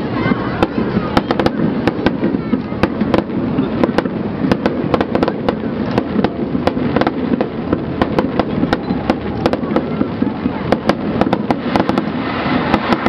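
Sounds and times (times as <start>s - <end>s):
rumble of booms: 0.5s - 13.0s
firework shells bursting: 0.6s - 13.0s.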